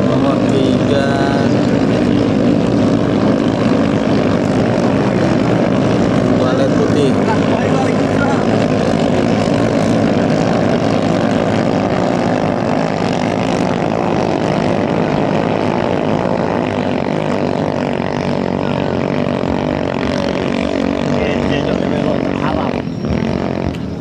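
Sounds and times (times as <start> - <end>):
boat engines droning: 0.0 - 24.0.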